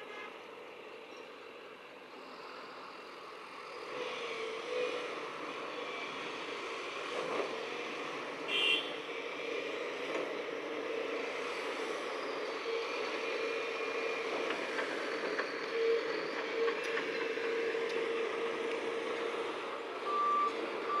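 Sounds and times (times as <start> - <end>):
construction machinery engine drone: 0.0 - 21.0.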